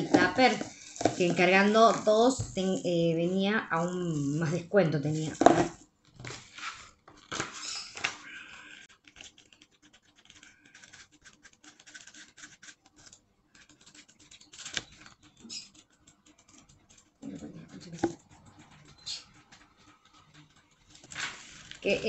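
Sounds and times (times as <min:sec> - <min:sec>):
glossy paper pages rustling: 0:00.0 - 0:03.0, 0:03.8 - 0:22.0.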